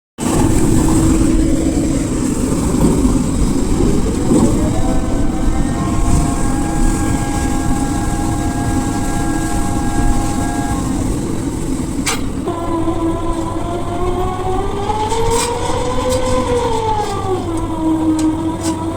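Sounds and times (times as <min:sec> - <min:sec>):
diesel engine running loudly: 0:00.2 - 0:18.9.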